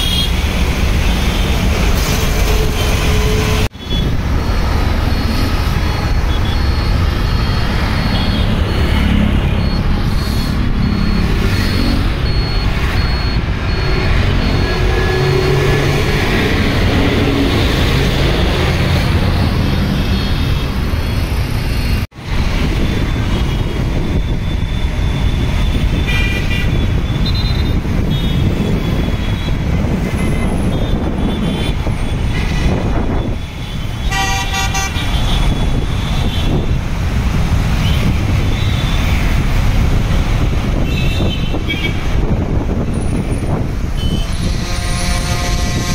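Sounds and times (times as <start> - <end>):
traffic on wet road: 0.0 - 45.9.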